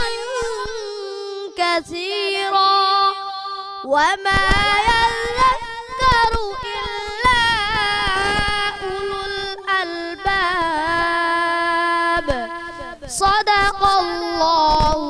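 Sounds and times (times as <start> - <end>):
boy reciting through microphone: 0.0 - 15.0.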